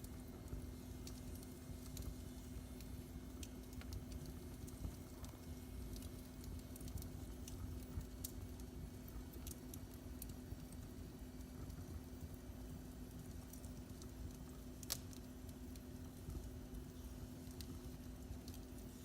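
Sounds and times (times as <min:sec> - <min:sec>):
low rumble of fire: 0:00.0 - 0:19.0
steady low hum: 0:00.0 - 0:19.0
wood fire crackling and popping: 0:00.0 - 0:19.0.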